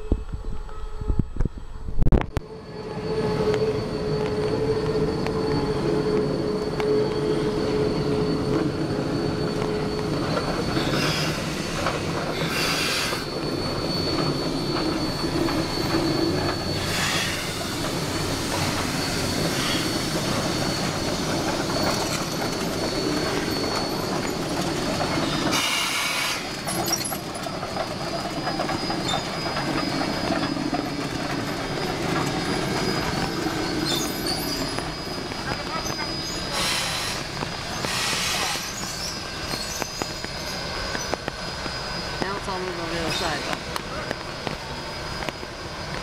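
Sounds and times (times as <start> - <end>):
train wheels squealing: 0.0 - 46.0
steam hissing: 3.2 - 46.0.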